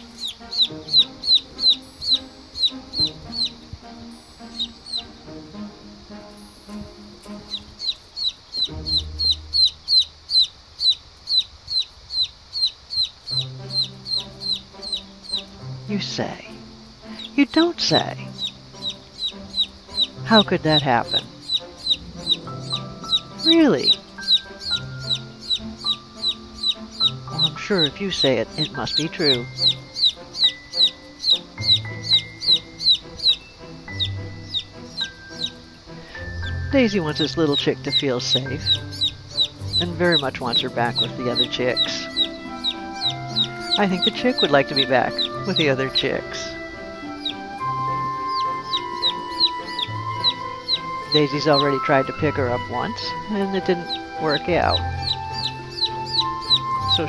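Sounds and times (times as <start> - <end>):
background music: 0.0 - 11.4, 12.6 - 57.0
chick peeping loudly: 0.0 - 57.0.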